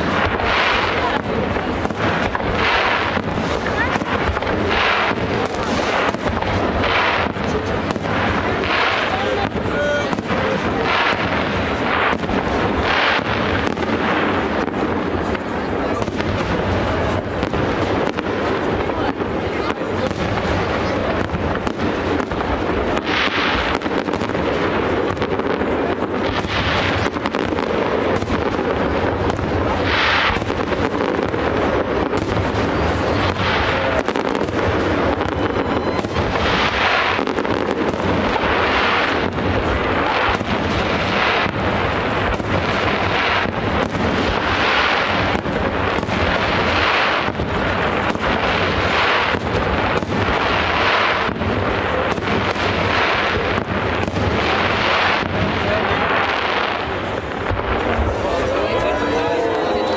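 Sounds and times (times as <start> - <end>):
fireworks bursting and crackling: 0.0 - 59.9
fireworks hissing rushes: 0.0 - 59.9.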